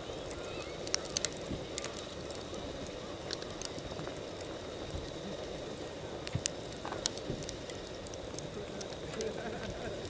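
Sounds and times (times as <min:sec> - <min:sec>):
campfire burning: 0:00.0 - 0:10.0
fire crackling pops: 0:00.0 - 0:10.0.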